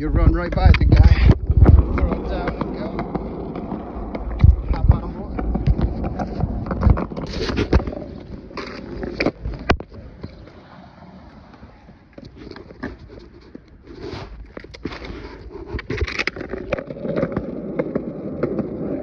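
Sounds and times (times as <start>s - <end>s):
skateboard wheels rolling on concrete: 0.0s - 19.0s
skateboard clacks: 0.3s - 13.8s, 14.5s - 19.0s.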